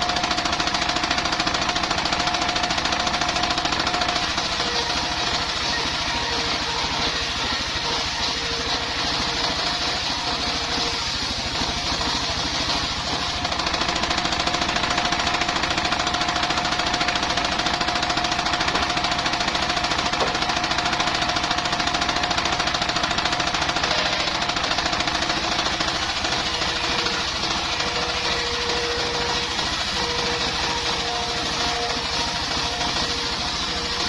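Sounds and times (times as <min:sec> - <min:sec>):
saw blade whine: 0:00.0 - 0:34.0
sawmill engine running: 0:00.0 - 0:34.0.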